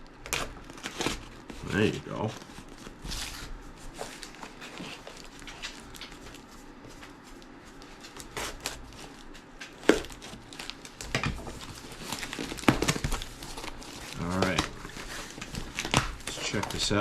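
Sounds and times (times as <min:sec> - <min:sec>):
cardboard and packing material rustling: 0:00.2 - 0:17.0.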